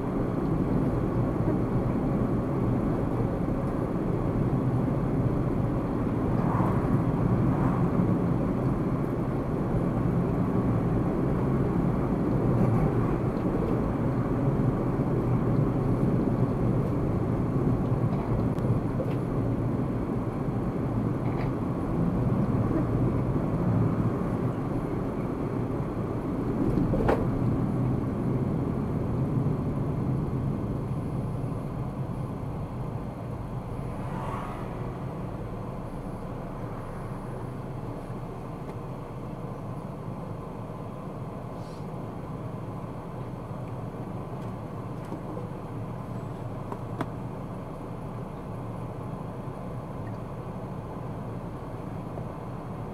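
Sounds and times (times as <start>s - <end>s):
car road and engine rumble: 0.0s - 52.9s.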